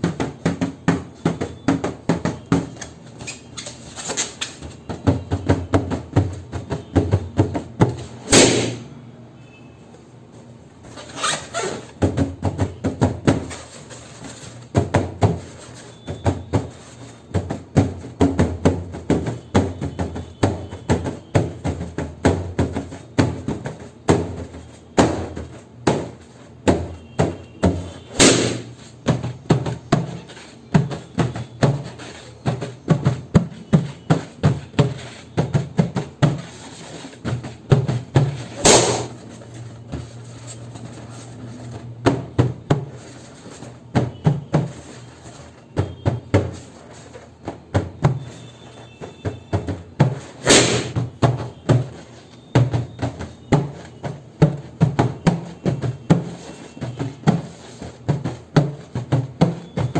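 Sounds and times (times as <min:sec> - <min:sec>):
balloons bursting: 0:00.0 - 0:09.0, 0:10.9 - 0:59.9
balloons tapping and knocking: 0:00.0 - 0:09.0, 0:10.1 - 0:59.9.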